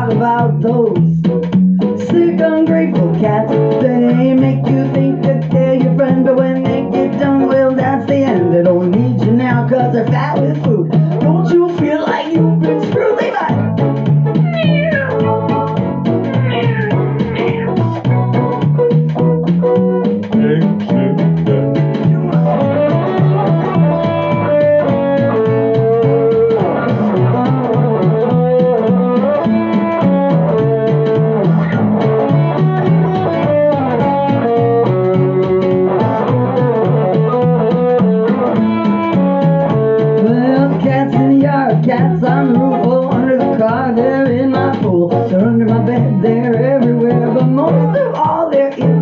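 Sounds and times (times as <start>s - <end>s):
electric guitar lead: 0.0s - 49.0s
electric keyboard chords: 0.0s - 49.0s
steady beat: 0.0s - 49.0s.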